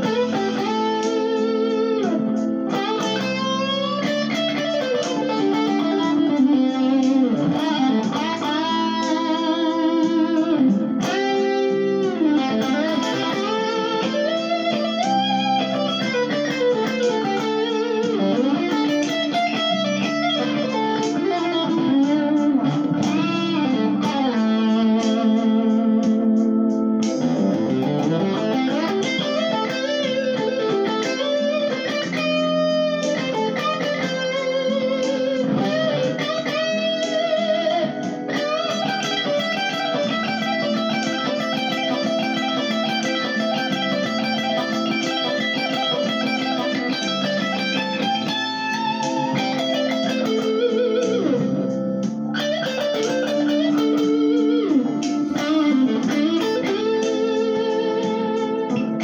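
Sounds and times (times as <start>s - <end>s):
electric guitar blues solo: 0.0s - 59.0s.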